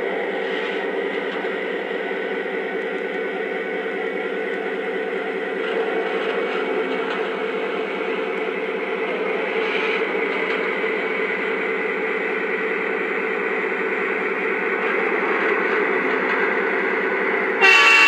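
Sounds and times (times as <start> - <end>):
model trains running on track: 0.0 - 18.0.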